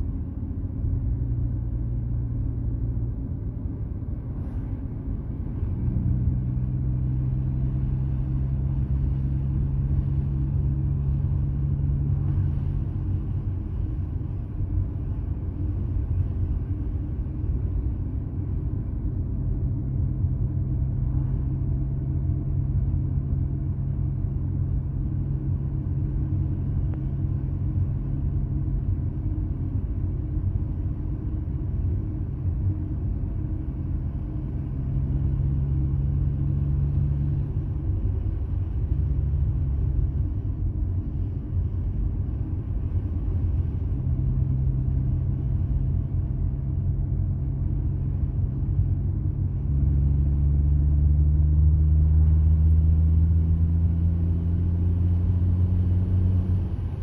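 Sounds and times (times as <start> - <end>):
car engine: 0.0 - 57.0
road rumble: 0.0 - 57.0.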